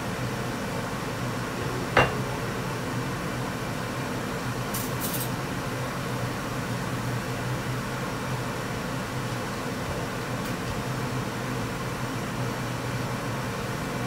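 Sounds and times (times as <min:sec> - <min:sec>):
fan-like mechanical hum: 0:00.0 - 0:14.0.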